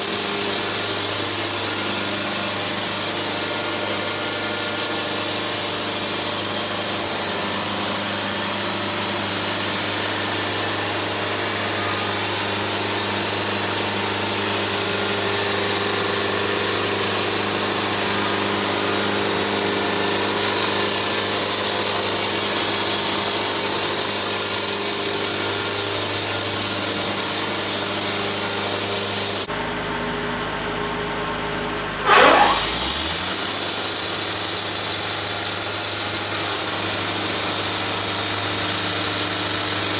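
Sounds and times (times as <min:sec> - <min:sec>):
sawmill sawing log: 0:00.0 - 0:29.5, 0:32.0 - 0:39.9.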